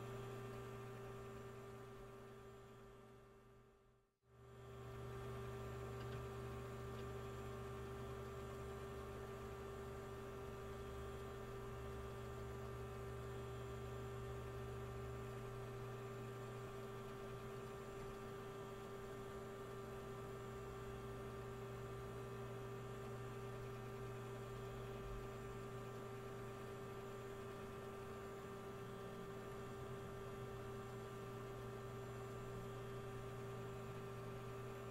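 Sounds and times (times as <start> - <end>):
faint electrical hum: 0.0 - 34.9.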